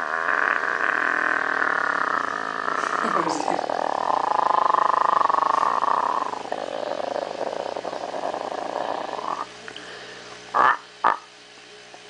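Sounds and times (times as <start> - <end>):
chameleon buzzing rattle: 0.0 - 9.6, 10.5 - 11.3.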